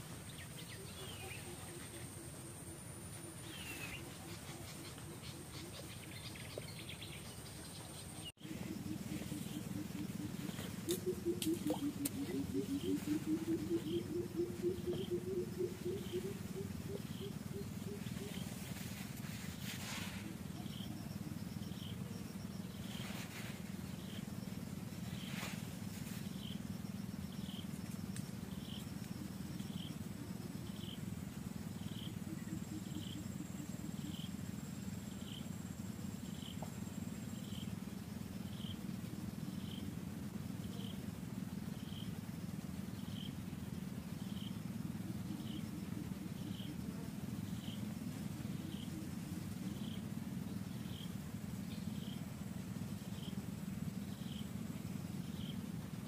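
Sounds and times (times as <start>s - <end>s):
low forest rumble: 0.0s - 56.0s.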